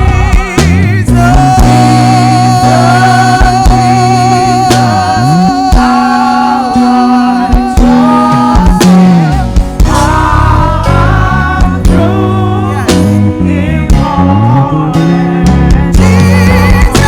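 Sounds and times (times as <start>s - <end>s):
drum hits: 0.0s - 14.2s
keyboard and bass chords: 0.0s - 17.0s
person singing with vibrato: 0.0s - 17.0s.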